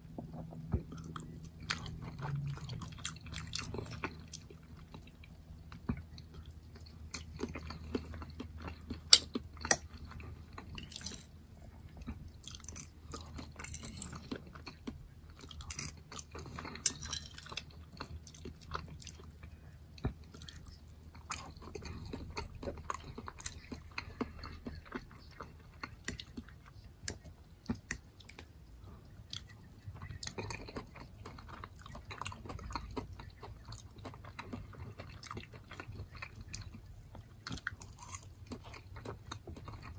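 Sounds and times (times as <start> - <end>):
chewing soft food: 0.2 - 39.9.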